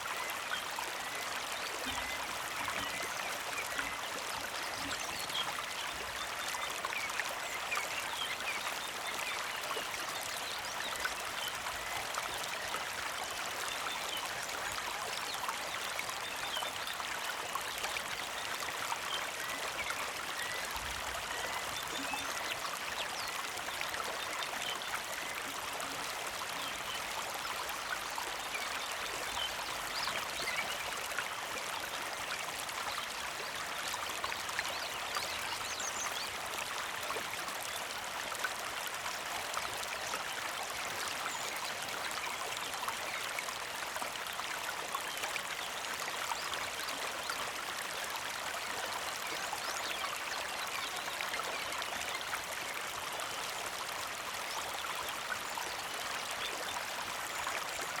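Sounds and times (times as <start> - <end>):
creek babbling over stones: 0.0 - 58.0.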